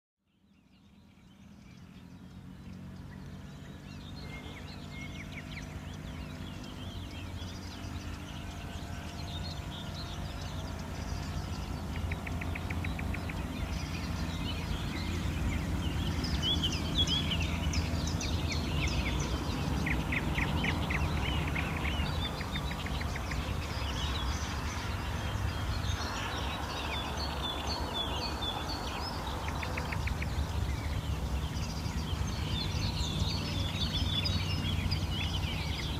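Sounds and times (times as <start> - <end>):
songbirds chirping and trilling: 0.2 - 35.9.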